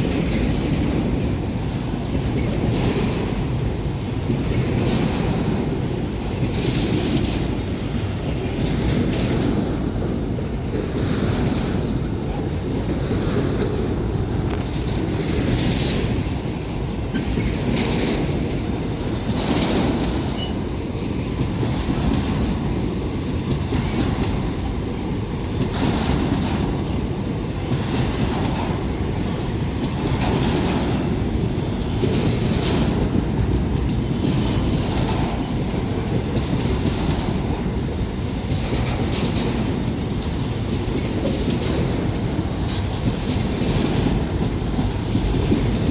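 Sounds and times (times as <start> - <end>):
freight train rumbling: 0.0 - 45.9
wheels clacking over rail joints: 0.0 - 45.9.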